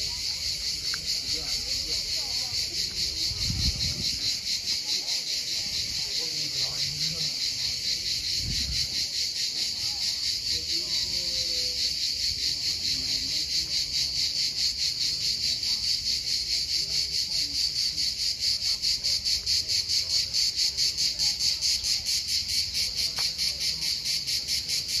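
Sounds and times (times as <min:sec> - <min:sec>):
cicadas buzzing: 0:00.0 - 0:25.0.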